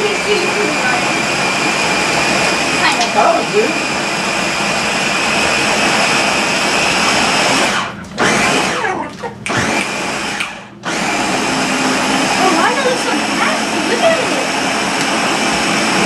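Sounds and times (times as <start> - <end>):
blender running with high whine: 0.0 - 8.9, 9.5 - 16.0.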